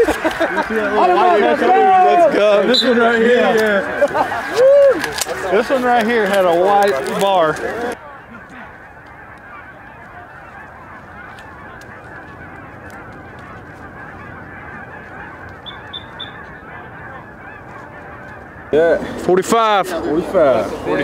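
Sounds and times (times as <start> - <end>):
geese honking in the distance: 0.0 - 21.0.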